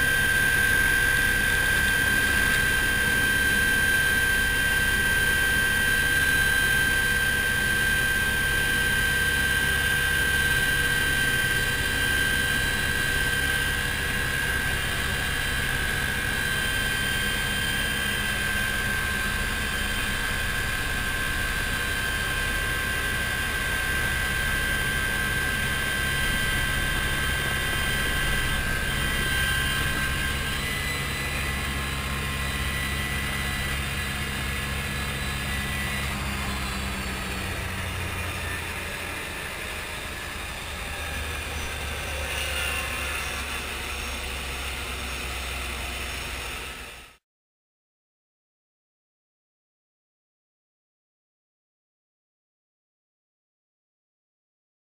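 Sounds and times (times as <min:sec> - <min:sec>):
helicopter engine whine: 0:00.0 - 0:47.2
helicopter rotor beat: 0:00.0 - 0:47.2.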